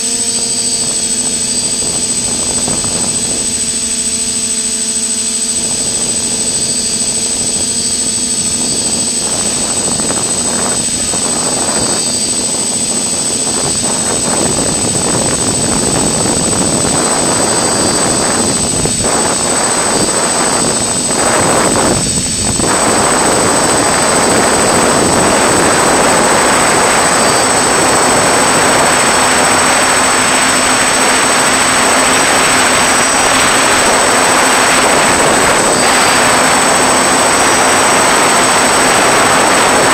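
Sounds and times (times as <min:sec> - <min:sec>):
drone motors whining: 0:00.0 - 0:39.9
prop wash and wind rushing: 0:00.0 - 0:39.9.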